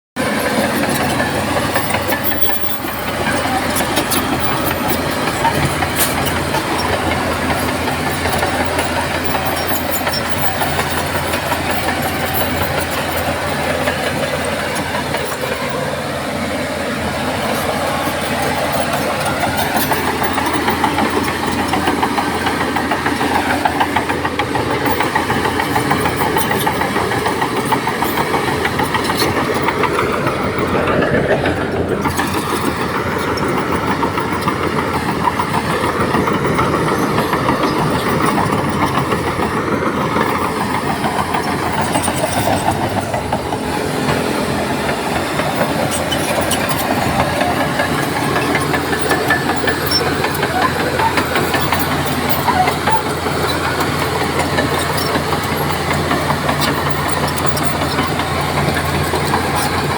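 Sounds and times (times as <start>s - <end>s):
bulldozer diesel engine running: 0.2s - 59.9s.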